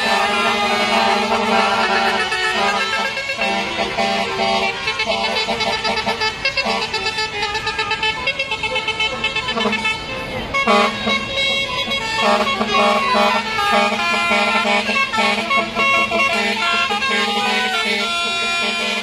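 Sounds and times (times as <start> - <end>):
lorry air horns playing a tune: 0.0 - 19.0.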